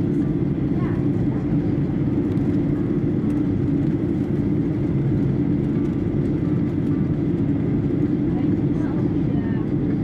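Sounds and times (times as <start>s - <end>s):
airliner cabin drone: 0.0s - 10.0s.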